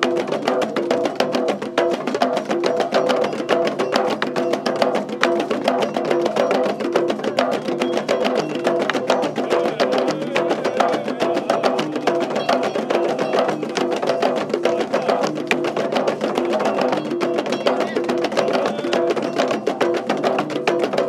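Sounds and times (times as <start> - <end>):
percussion-driven music: 0.0 - 21.0.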